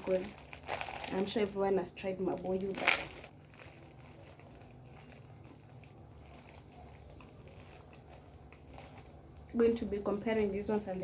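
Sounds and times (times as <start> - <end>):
snack packet crinkling: 0.0 - 9.5
low steady hum: 0.0 - 11.0.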